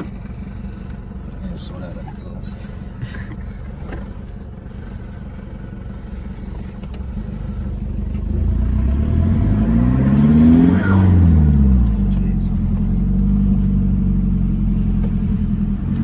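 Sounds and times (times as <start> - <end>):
engine rumbling and accelerating: 0.0 - 16.0.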